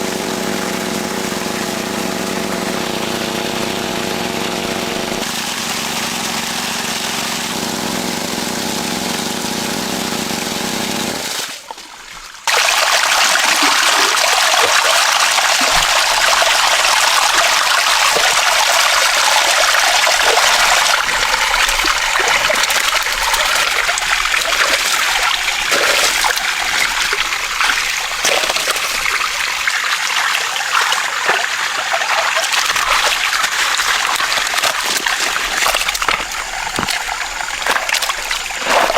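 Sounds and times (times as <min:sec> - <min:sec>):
small engine running: 0:00.0 - 0:11.5, 0:13.1 - 0:38.9
water rushing and splashing: 0:00.0 - 0:38.9.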